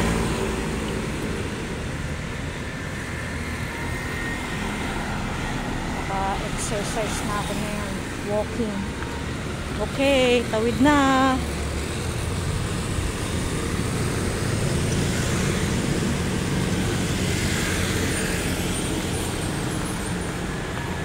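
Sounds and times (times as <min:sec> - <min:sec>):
vehicles passing on road: 0:00.0 - 0:21.0.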